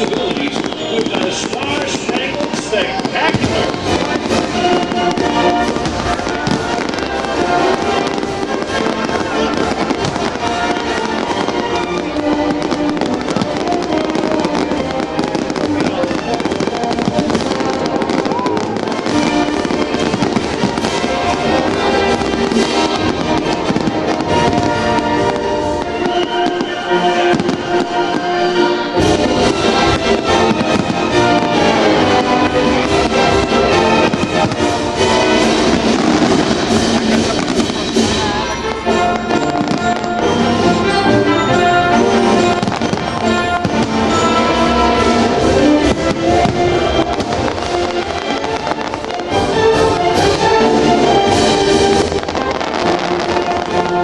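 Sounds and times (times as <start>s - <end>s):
fireworks bursting and popping: 0.0s - 54.0s
loud music: 0.0s - 54.0s.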